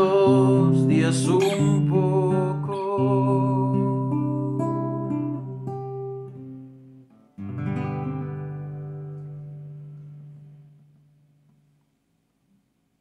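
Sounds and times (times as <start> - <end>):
classical guitar playing: 0.0 - 11.8.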